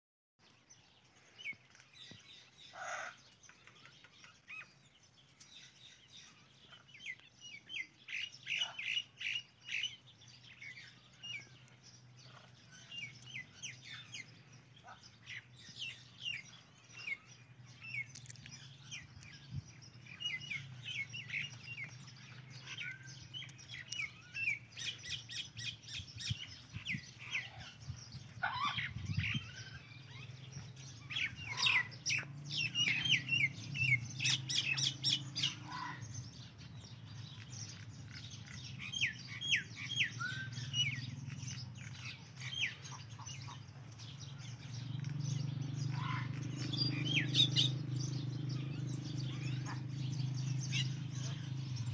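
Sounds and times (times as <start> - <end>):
birds chirping: 0.4 - 51.9.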